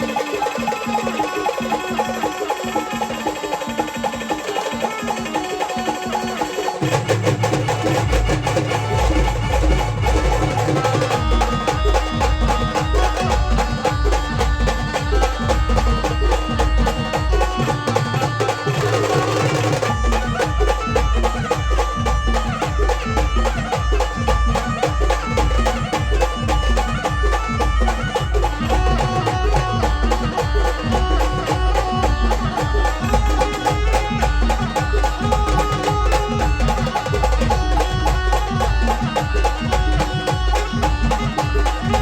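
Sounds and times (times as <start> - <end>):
busy percussion: 0.0 - 42.0
instrumental folk band music: 0.0 - 42.0
heavy bass drum beat: 6.8 - 42.0.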